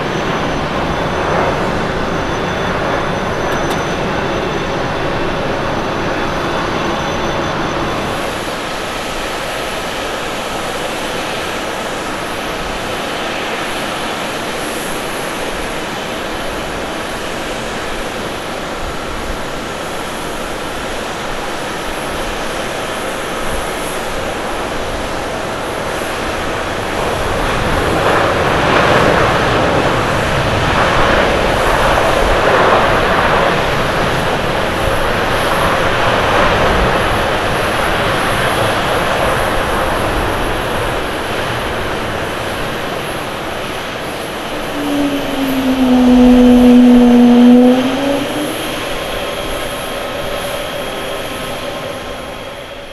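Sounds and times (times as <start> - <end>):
jet airliner rollout noise: 0.0 - 52.9.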